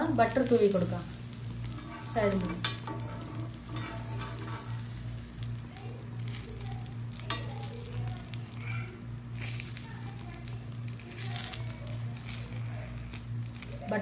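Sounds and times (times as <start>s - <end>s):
batter sizzling on a hot pan: 0.0s - 14.0s.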